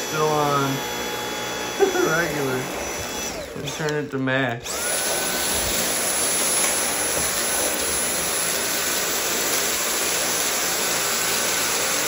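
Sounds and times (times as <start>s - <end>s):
stick vacuum running: 0.0s - 12.0s.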